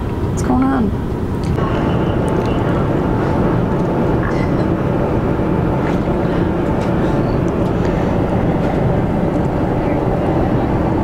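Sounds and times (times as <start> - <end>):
low engine rumble: 0.0 - 11.0
faint steady tones: 1.6 - 11.0.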